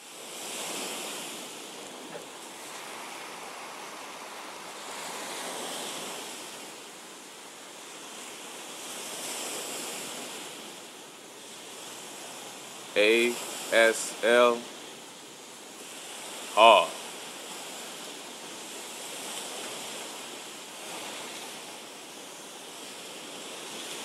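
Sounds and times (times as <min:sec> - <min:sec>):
ocean surf: 0:00.0 - 0:24.0.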